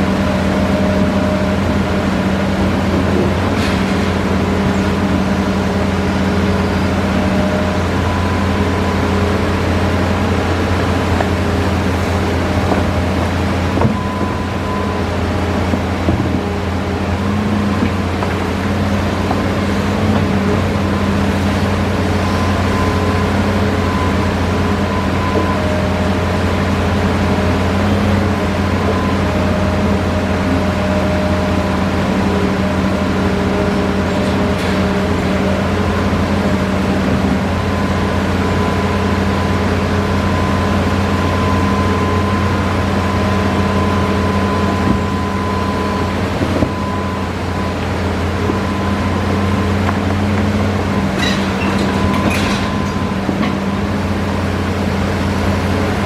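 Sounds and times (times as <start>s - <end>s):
excavator diesel engine drone: 0.0s - 56.0s
high-pitched whine: 0.0s - 56.0s.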